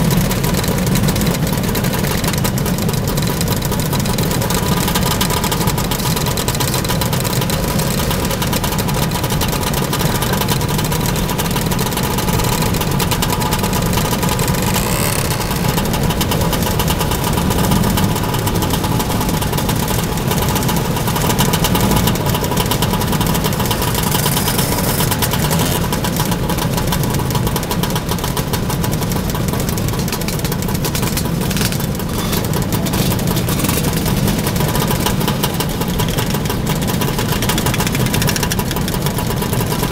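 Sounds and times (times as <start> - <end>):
scooter engines idling: 0.0 - 39.9.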